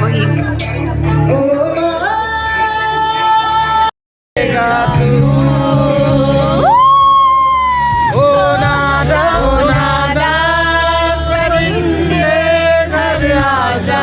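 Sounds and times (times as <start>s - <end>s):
amplified band with steady bass: 0.0s - 14.0s
man singing: 1.0s - 7.3s, 8.0s - 14.0s.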